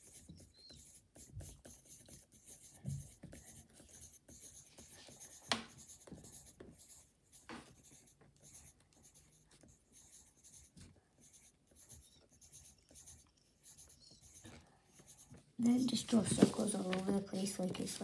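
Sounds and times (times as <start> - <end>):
pencil scratching on paper: 0.0 - 18.0.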